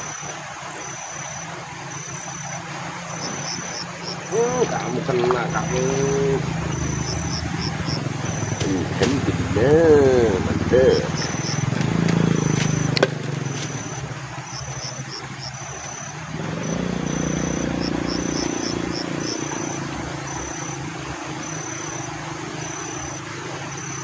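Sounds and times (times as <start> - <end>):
insect chirping: 0.0 - 24.0
motor engine humming: 1.2 - 24.0.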